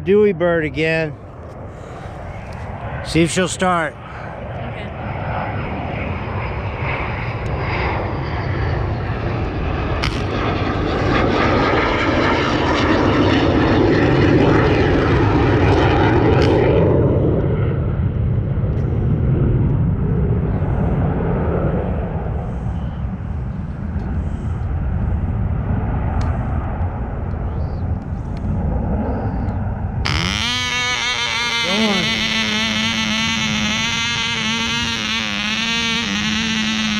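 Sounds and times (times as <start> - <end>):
model airplane engine running: 0.7 - 36.9.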